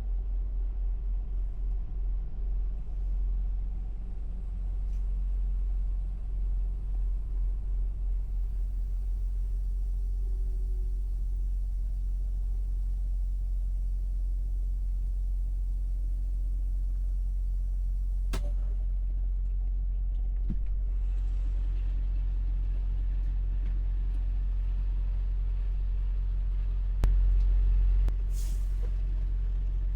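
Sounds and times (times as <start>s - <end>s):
truck diesel engine rumble: 0.0s - 29.9s.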